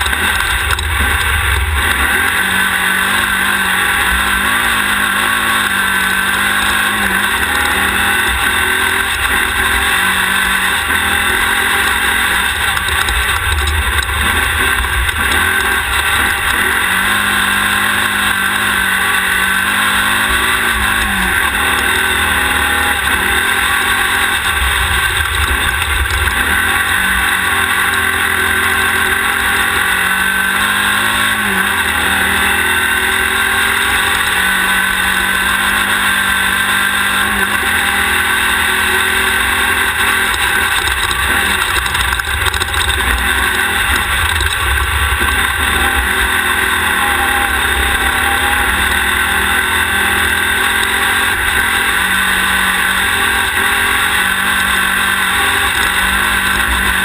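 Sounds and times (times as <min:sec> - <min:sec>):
race car engine running hard: 0:00.0 - 0:57.0
steady rushing noise: 0:00.0 - 0:57.0.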